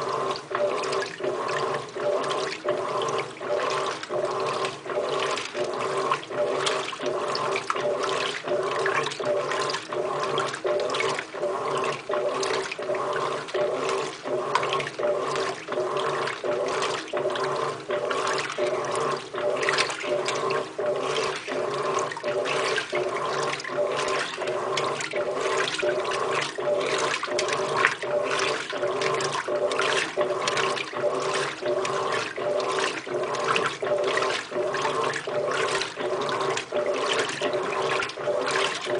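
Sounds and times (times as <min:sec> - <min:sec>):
washing machine motor humming: 0:00.0 - 0:38.9
water sloshing: 0:00.0 - 0:38.9.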